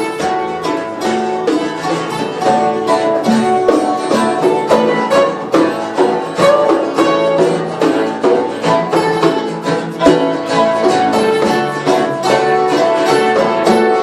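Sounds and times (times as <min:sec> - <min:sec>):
plucked strings melody: 0:00.0 - 0:14.0
steady beat: 0:00.0 - 0:14.0.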